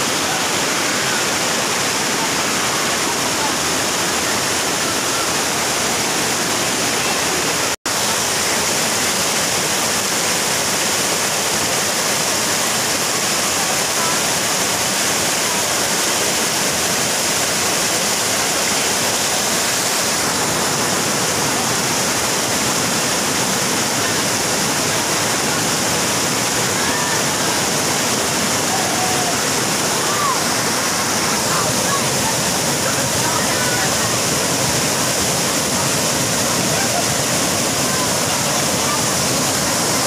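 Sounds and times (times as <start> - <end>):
waterfall rushing and splashing: 0.0 - 40.0.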